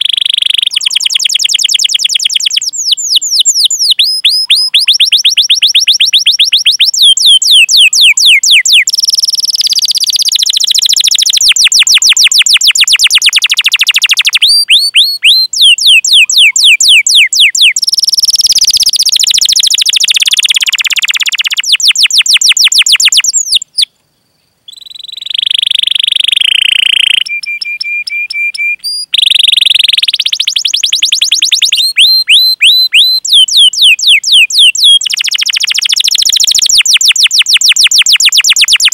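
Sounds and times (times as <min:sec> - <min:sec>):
canary singing chirps and trills: 0:00.0 - 0:23.9, 0:24.7 - 0:38.9.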